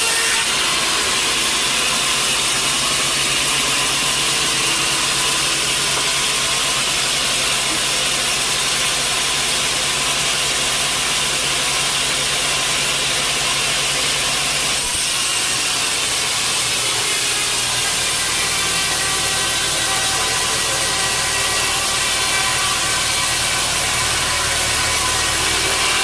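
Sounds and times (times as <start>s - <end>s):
sawmill saw and engine drone: 0.0s - 26.0s.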